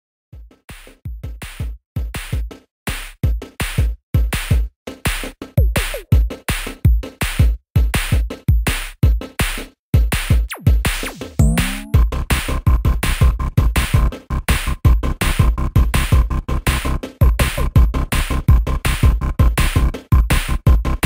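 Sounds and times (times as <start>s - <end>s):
drum machine beat: 0.4s - 21.0s.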